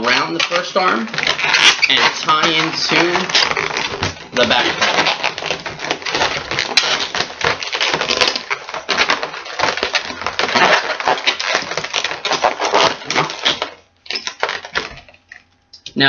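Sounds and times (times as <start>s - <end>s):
balloons rubbing and squeaking: 0.0s - 15.5s.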